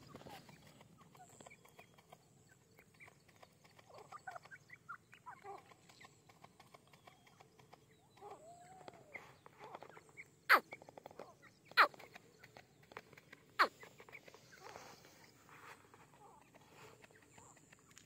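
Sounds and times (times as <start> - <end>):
birds chirping and clucking: 0.0 - 18.0.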